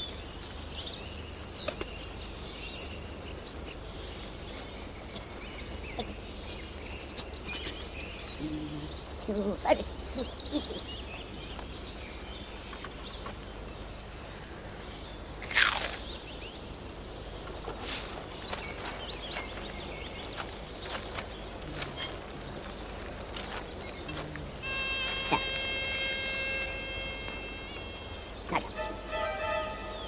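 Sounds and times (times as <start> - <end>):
background hiss: 0.0 - 30.0
small birds chirping: 0.0 - 30.0.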